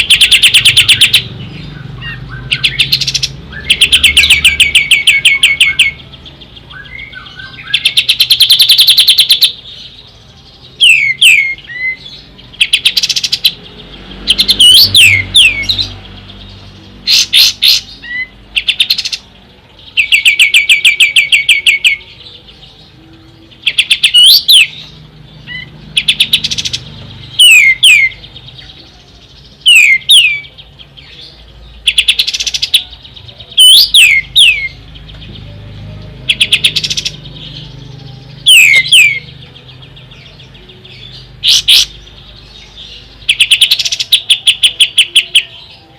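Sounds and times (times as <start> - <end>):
songbird trilling and whistling: 0.0 - 45.9.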